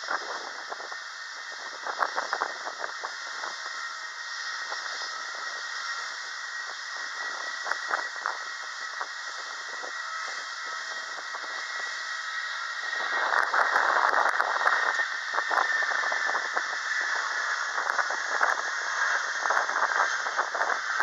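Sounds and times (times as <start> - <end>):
distant jet engines roaring: 0.0 - 21.0.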